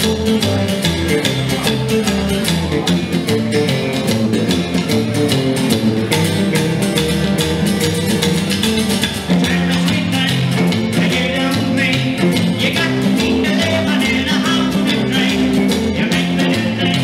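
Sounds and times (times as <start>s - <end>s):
guitars: 0.0s - 17.0s
rockabilly band playing: 0.0s - 17.0s
upright double bass: 0.0s - 17.0s.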